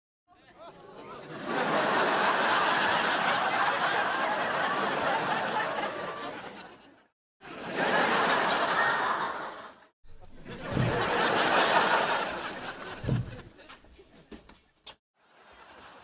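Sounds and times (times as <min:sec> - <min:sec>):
studio audience laughter: 0:00.4 - 0:14.4, 0:15.2 - 0:16.0.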